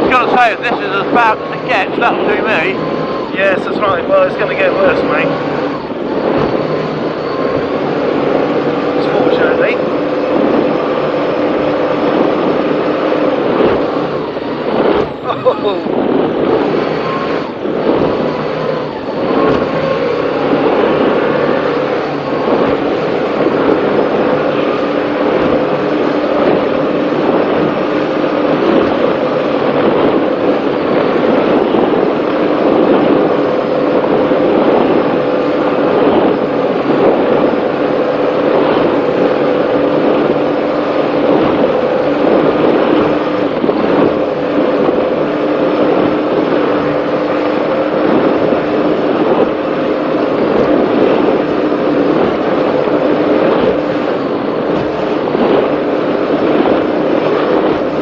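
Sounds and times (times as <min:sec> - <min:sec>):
powerboat engines droning: 0:00.0 - 0:58.0
rush of wind and water: 0:00.0 - 0:58.0.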